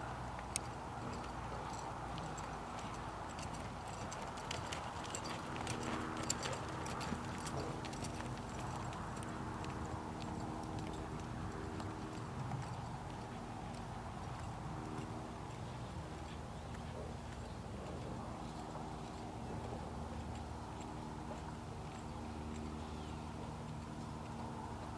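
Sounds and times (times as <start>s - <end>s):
horse hoofbeats: 0.0s - 24.9s.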